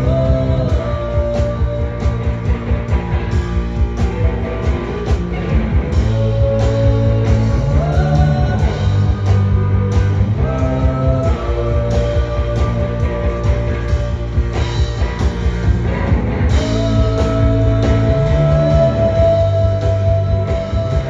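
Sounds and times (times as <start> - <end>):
guitar: 0.0 - 21.0
live rock band playing: 0.0 - 21.0.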